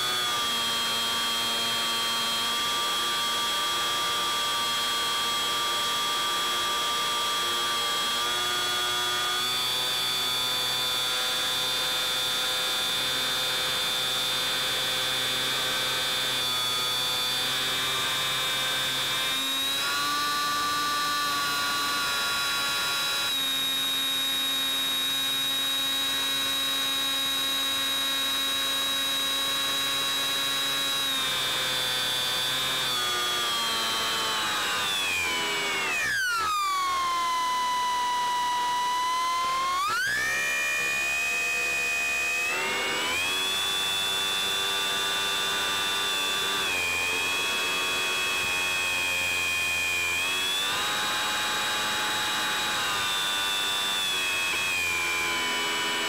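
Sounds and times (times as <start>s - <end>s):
electric motor and propeller whining: 0.0s - 56.0s.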